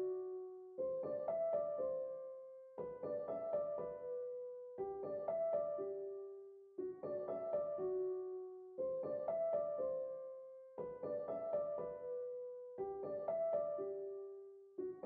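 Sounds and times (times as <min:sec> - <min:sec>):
gentle piano phrase: 0:00.0 - 0:15.0.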